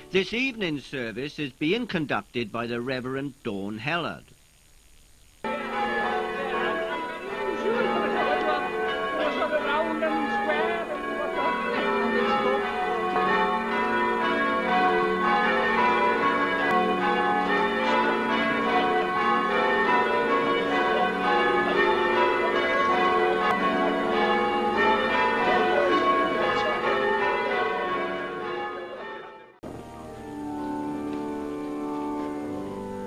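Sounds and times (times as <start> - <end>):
church bells ringing: 5.5 - 33.0.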